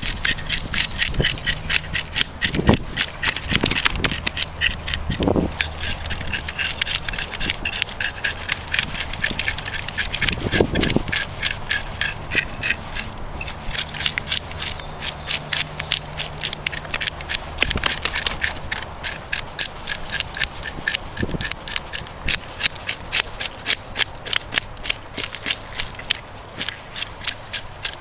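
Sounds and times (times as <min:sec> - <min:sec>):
fish scales being scraped: 0:00.0 - 0:28.0.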